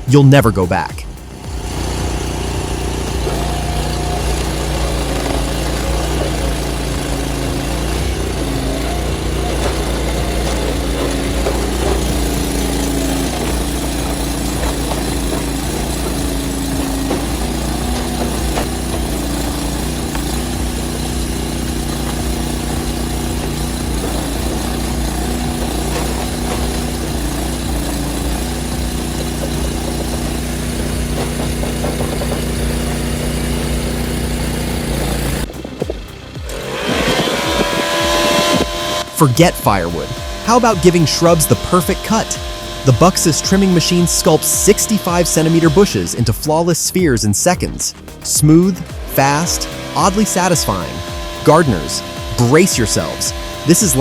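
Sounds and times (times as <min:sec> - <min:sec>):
log splitter engine running: 0:00.0 - 0:54.0.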